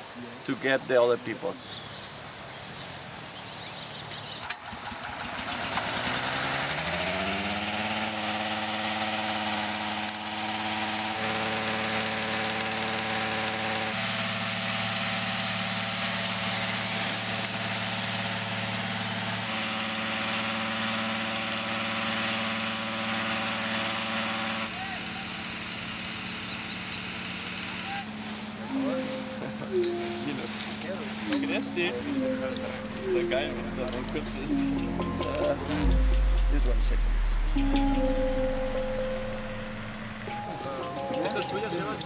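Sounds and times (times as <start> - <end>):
inflator fan petrol engine running: 4.4 - 42.0.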